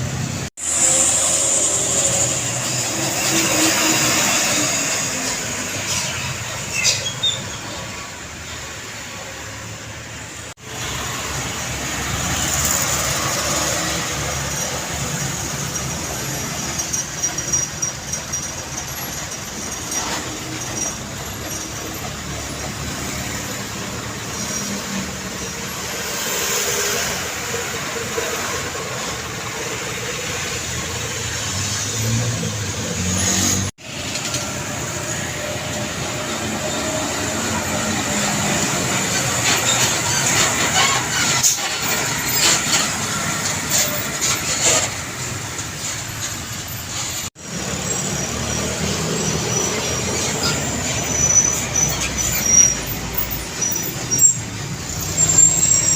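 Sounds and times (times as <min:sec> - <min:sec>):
truck and car engines: 0:00.0 - 0:55.9
tyre noise of passing vehicles: 0:00.0 - 0:55.9.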